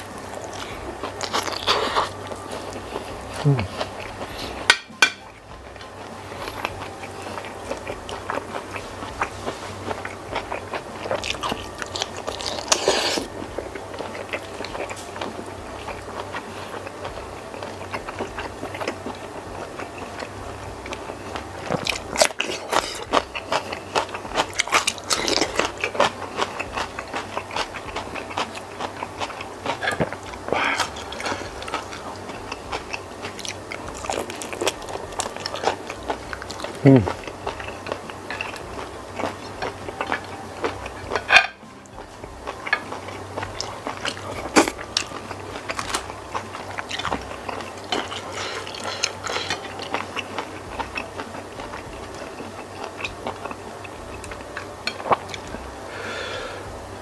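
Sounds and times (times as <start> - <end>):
close chewing and biting: 0.0 - 55.8.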